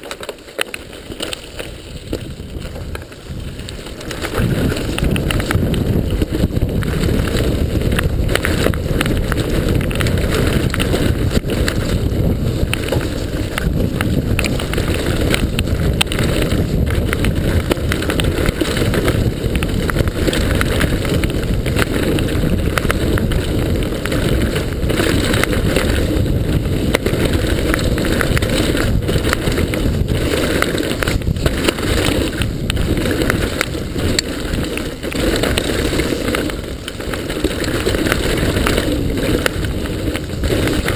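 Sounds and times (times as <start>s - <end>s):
bike rattling and knocking: 0.0s - 40.9s
tyres on dirt: 0.0s - 40.9s
wind rumble on microphone: 0.9s - 40.9s.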